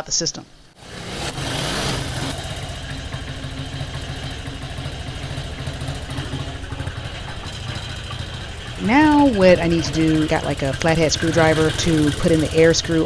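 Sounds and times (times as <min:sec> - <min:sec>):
motorcycle engine idling: 0:00.8 - 0:13.0.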